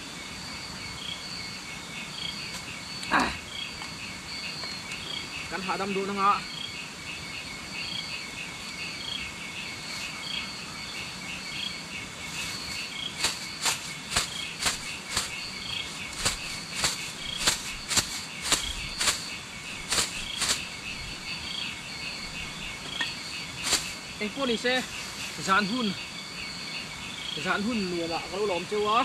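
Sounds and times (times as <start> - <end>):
crickets and insects chirping: 0.0 - 29.0.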